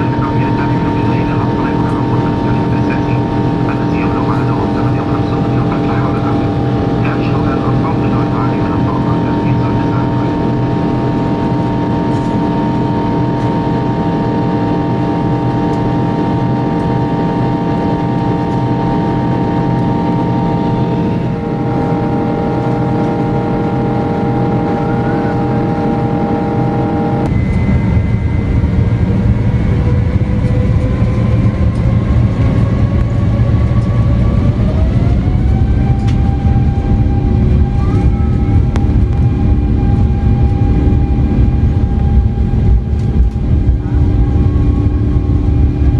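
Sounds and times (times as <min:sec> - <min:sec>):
heavy low rumble: 0:00.0 - 0:45.9
jet engines whining: 0:00.0 - 0:45.9.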